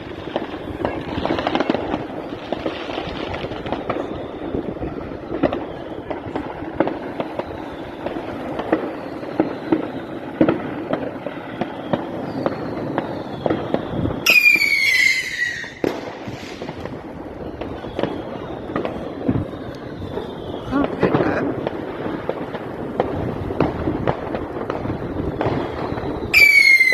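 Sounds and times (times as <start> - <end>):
fireworks banging: 0.0 - 26.9
whistling firework: 0.0 - 26.9.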